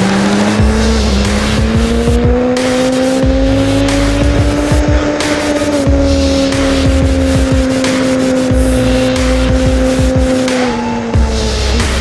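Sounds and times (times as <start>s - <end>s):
motorcycle engine revving up: 0.0s - 12.0s
wind and spray hiss: 0.3s - 10.6s.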